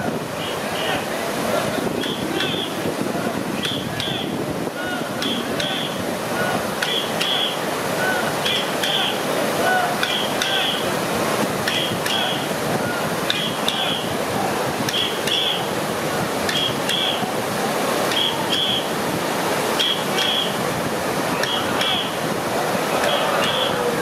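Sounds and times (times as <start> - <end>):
river water rushing over weir: 0.0 - 24.0.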